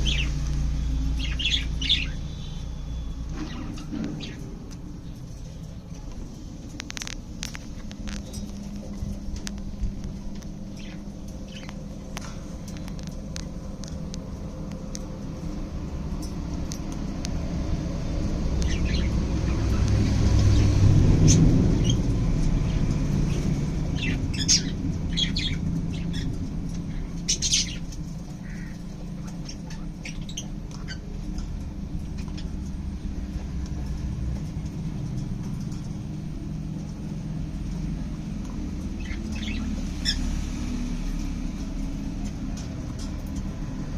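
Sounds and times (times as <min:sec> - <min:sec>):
birds chirping and squawking: 0:00.0 - 0:43.9
steady low rumble: 0:00.0 - 0:43.9.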